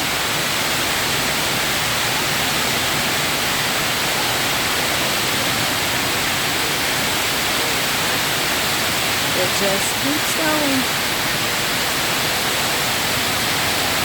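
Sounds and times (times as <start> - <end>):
indoor waterfall rushing: 0.0 - 14.0.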